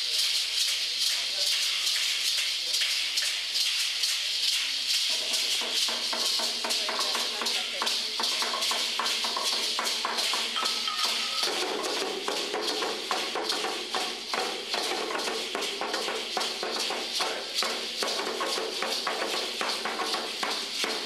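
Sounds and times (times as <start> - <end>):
hand rattles shaken rhythmically: 0.0 - 21.0.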